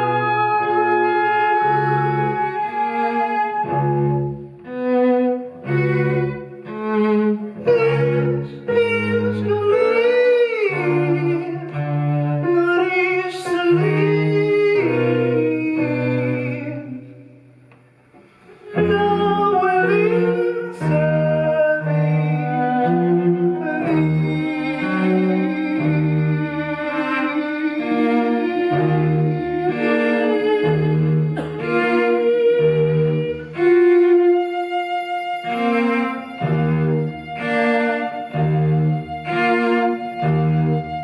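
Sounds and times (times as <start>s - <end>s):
chamber strings with cello: 0.0s - 41.0s.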